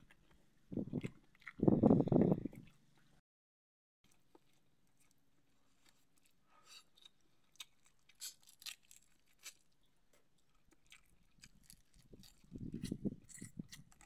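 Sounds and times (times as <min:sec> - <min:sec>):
chewing: 0:00.0 - 0:03.2, 0:04.0 - 0:14.0.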